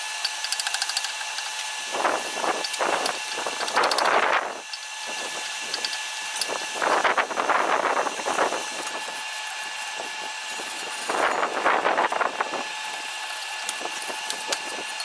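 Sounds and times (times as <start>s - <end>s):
differential gears grinding and rattling: 0.0s - 15.0s.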